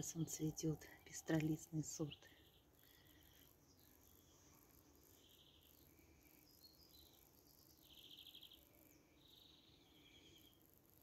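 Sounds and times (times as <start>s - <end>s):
faint songbirds chirping: 0.0s - 11.0s.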